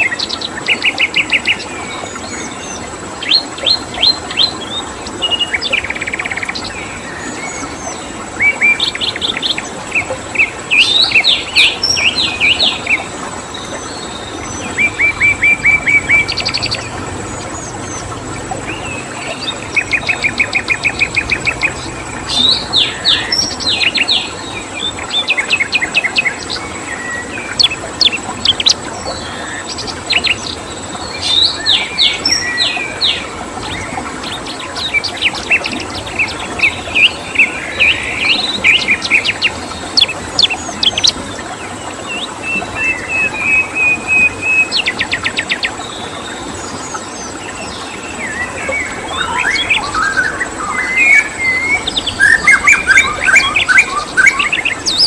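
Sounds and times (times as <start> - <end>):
songbirds singing: 0.0 - 55.0
stream water flowing: 0.0 - 55.0.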